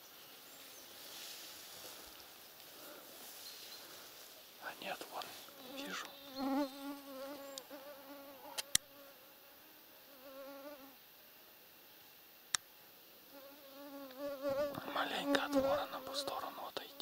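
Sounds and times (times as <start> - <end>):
insect wings buzzing: 0.0 - 11.1, 13.2 - 17.0.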